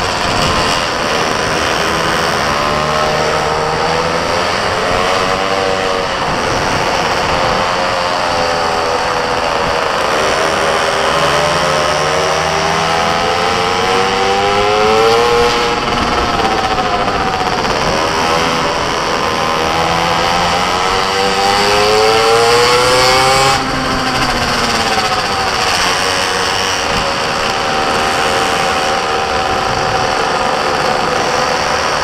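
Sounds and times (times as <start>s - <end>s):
racing engine running hard: 0.0s - 32.0s
steady rushing noise: 0.0s - 32.0s.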